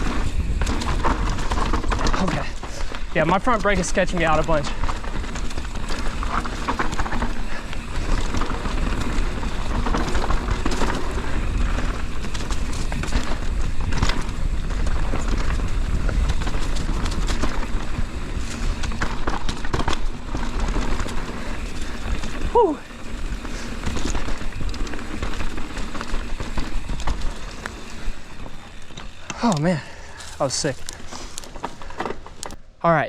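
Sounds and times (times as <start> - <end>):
bike frame and chain rattling: 0.0 - 32.7
bike tyres rolling over dirt: 0.0 - 33.0.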